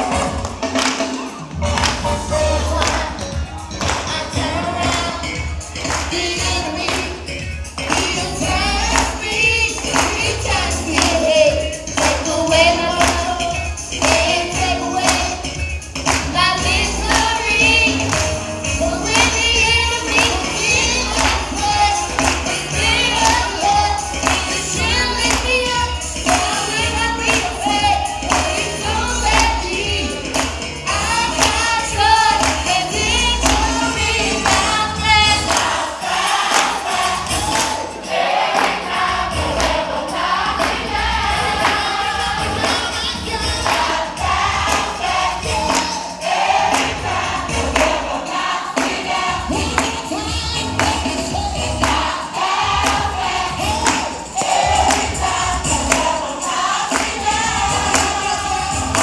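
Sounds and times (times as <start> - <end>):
band backing with bass line: 0.0 - 59.0
group singing in harmony: 0.0 - 59.0
tambourine beat: 0.0 - 59.0.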